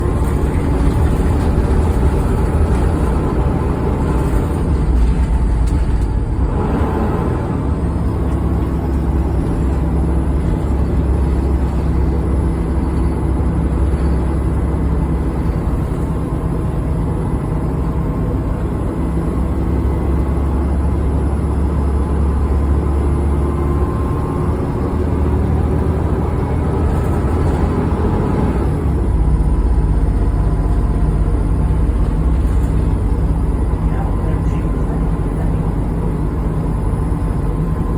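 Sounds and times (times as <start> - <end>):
bus engine droning under load: 0.0 - 37.9
faint engine whine: 0.0 - 37.9.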